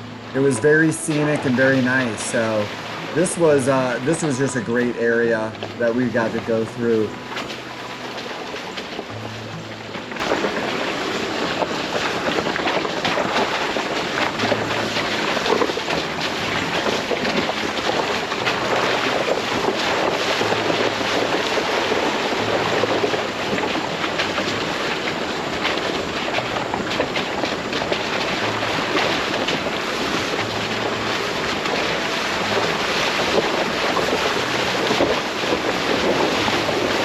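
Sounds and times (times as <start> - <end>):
road noise: 0.0 - 37.0
wind on microphone: 0.0 - 37.0.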